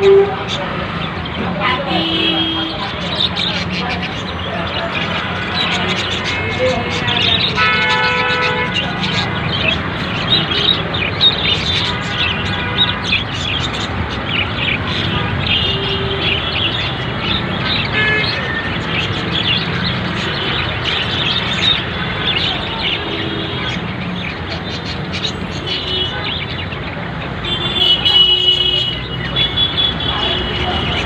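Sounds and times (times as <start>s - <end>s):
budgerigars chattering: 0.4s - 27.0s.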